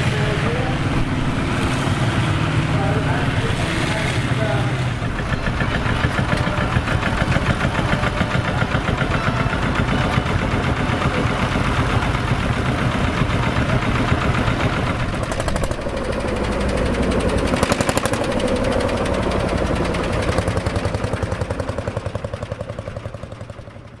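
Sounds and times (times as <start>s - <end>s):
tractor engines chugging: 0.0s - 24.0s.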